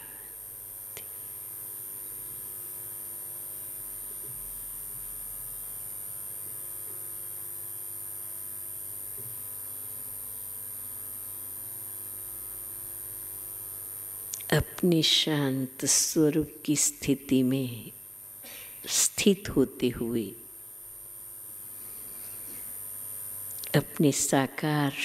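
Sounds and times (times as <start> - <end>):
electrical hum with high whine: 0.0 - 25.0.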